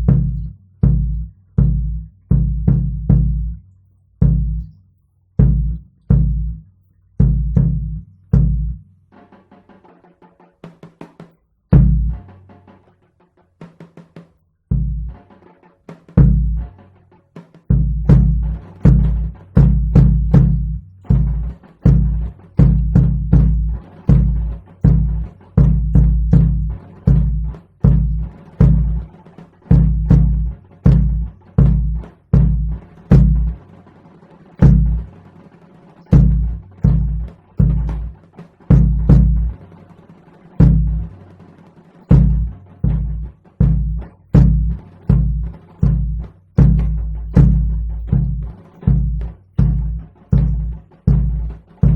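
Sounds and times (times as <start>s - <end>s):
deep drum strokes: 0.0s - 3.6s, 7.2s - 9.6s, 11.7s - 12.8s, 13.6s - 16.8s, 17.6s - 51.9s.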